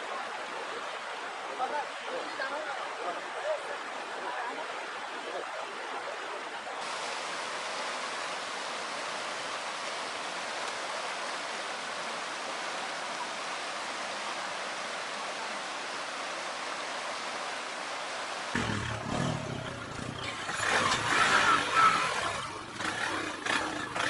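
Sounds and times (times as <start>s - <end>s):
rushing stream water: 0.0s - 24.0s.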